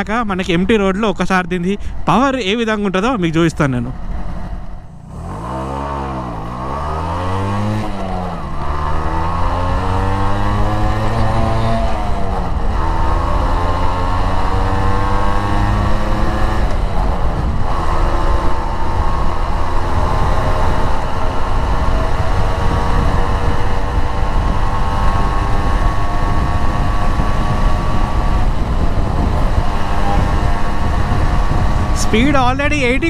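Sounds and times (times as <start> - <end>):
two-stroke engine accelerating: 4.1 - 33.0.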